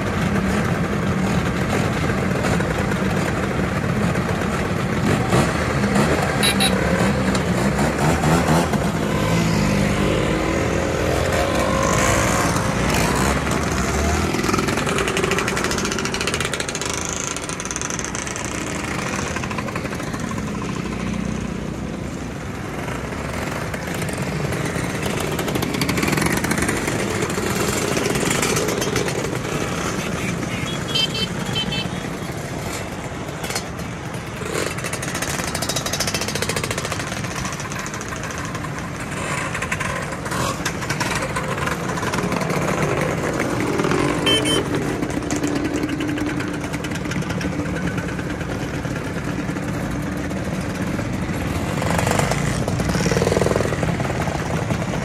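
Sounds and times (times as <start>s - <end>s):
motor scooters revving past: 0.1s - 55.0s.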